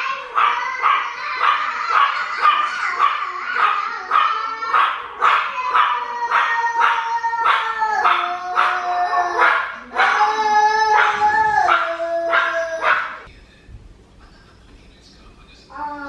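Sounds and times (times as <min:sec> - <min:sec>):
high whining howl: 0:00.0 - 0:13.3
small dogs barking and yipping: 0:00.0 - 0:13.3.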